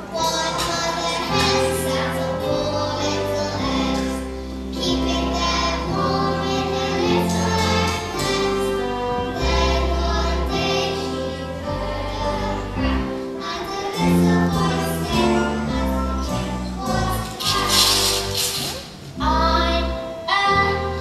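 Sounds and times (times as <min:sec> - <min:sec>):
held bass notes: 0:00.0 - 0:13.2, 0:14.0 - 0:21.0
children singing together: 0:00.0 - 0:21.0
instrumental accompaniment: 0:00.0 - 0:21.0.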